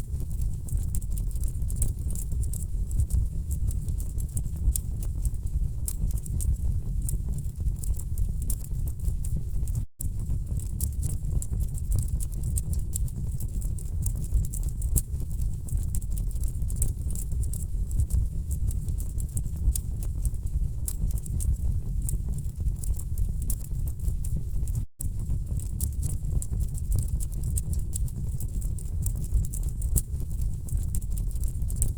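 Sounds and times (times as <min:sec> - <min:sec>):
low rumble of flames: 0:00.0 - 0:31.9.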